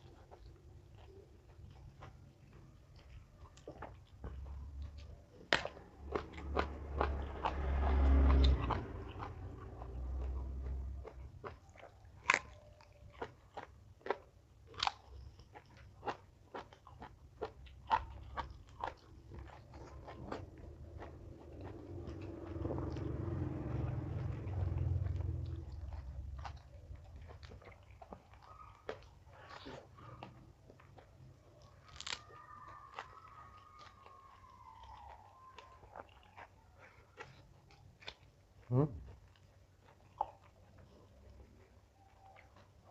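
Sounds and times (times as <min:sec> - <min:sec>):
crunching raw vegetables: 0:00.0 - 0:42.9.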